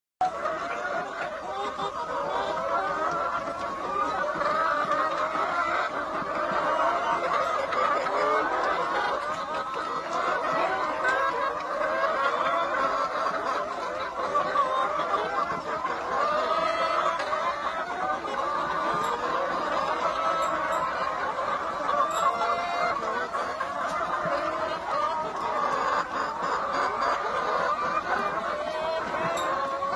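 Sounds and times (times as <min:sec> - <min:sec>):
hens clucking: 0:00.2 - 0:29.9.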